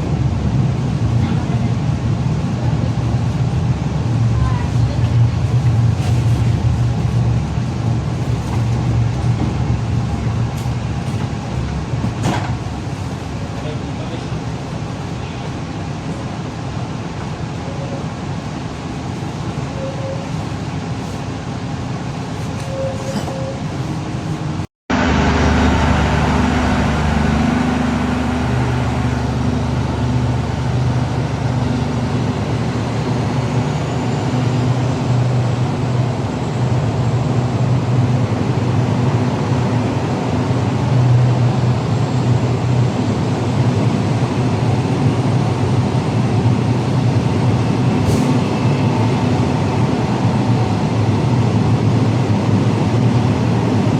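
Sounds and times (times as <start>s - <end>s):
passenger train running: 0.0s - 53.9s.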